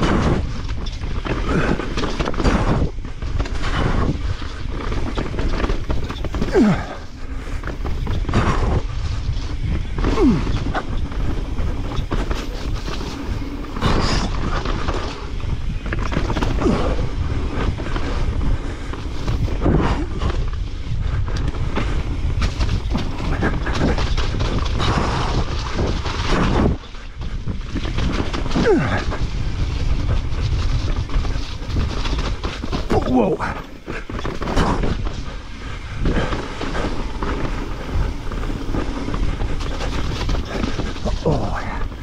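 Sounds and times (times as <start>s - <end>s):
bike rattling: 0.0s - 42.0s
bike tyres rumbling on dirt: 0.0s - 42.0s
wind buffeting microphone: 0.0s - 42.0s.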